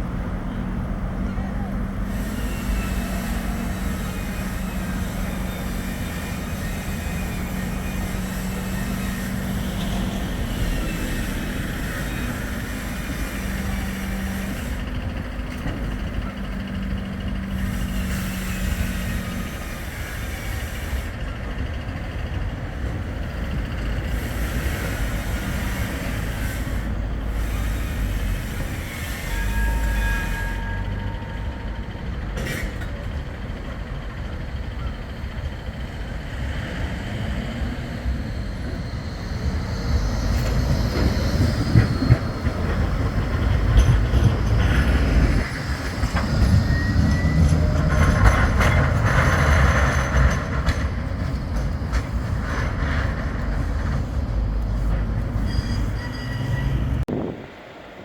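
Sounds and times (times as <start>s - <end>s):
tram running: 0.0s - 58.0s.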